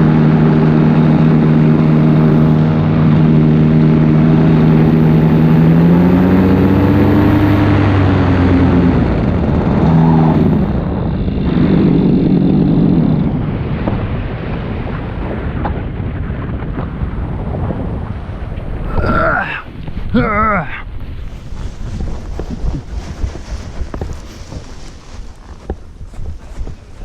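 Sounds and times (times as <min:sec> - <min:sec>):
paramotor engine droning: 0:00.0 - 0:27.0
wind rushing over microphone: 0:00.0 - 0:27.0.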